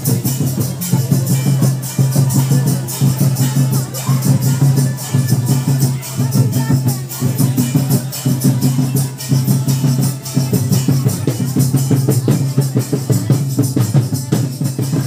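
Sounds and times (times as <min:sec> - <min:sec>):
loud music with fast drum beat: 0:00.0 - 0:15.0.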